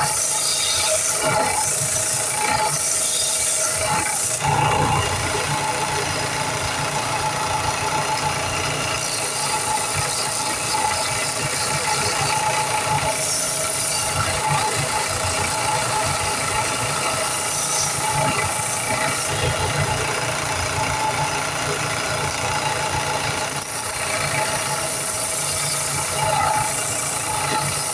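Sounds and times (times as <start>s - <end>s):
belt grinder grinding: 0.0s - 27.9s.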